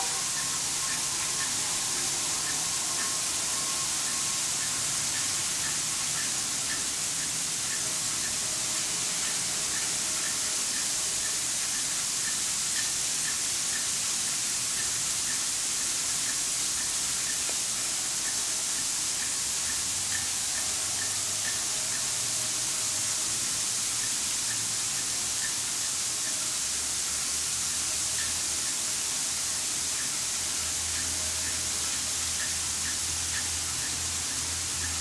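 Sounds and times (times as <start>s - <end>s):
high-pitched hiss: 0.0s - 35.0s.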